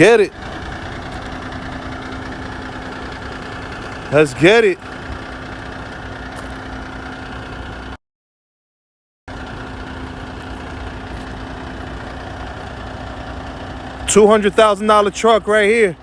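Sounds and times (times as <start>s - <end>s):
diesel truck engine idling: 0.0s - 8.0s, 9.3s - 16.0s.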